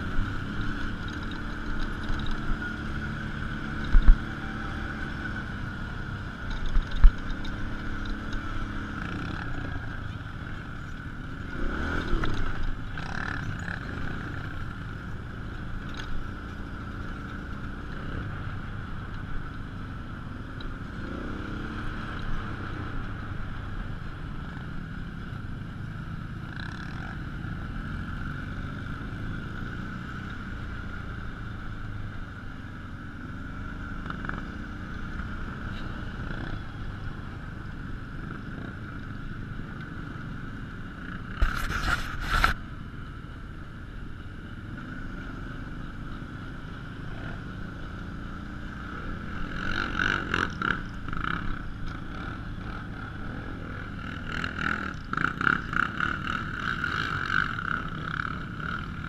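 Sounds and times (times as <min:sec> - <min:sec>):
off-road vehicle engine: 0:00.0 - 0:59.0.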